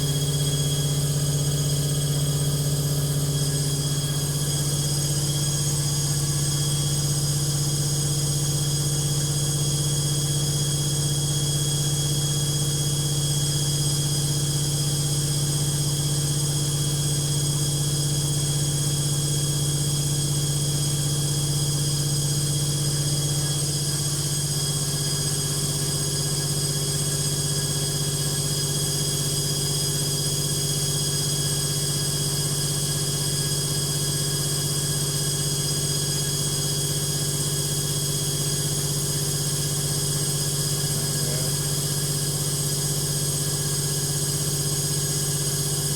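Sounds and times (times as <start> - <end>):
washing machine spin hum: 0.0 - 45.9.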